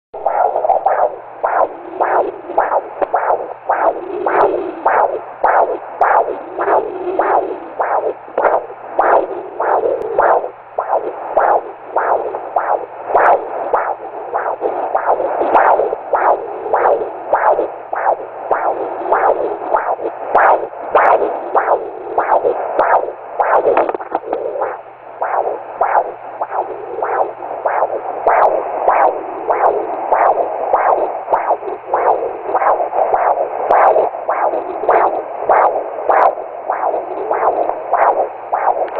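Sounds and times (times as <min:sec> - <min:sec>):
fetal heartbeat whooshing pulses: 0:00.1 - 0:38.9
faint steady hum: 0:00.2 - 0:38.9.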